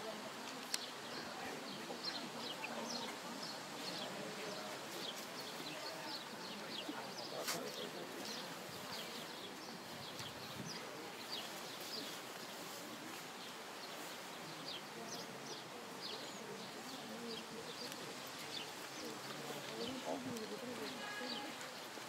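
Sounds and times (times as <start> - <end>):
steady background hiss: 0.0 - 22.0
small birds chirping: 0.5 - 22.0.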